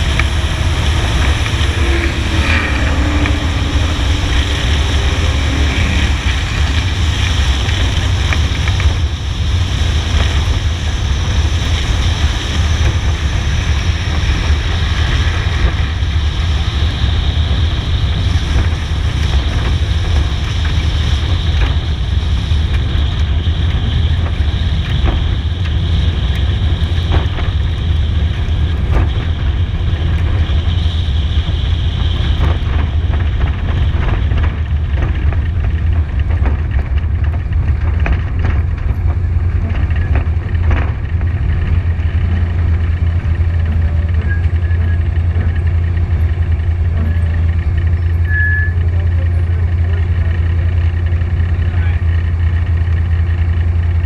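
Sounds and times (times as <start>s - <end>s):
car engine rumbling: 0.0s - 54.0s
wind rushing over microphone: 0.0s - 54.0s.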